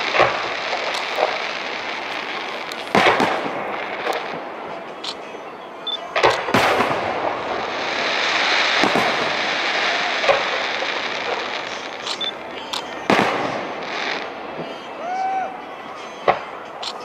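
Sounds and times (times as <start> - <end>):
firework shells bursting: 0.0 - 17.0
steady hiss: 0.0 - 17.0.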